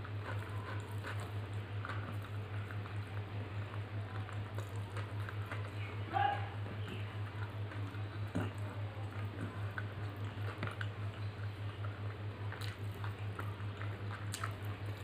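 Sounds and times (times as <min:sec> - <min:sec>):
mouth chewing and smacking: 0:00.0 - 0:15.0
rice squishing by hand: 0:00.0 - 0:15.0.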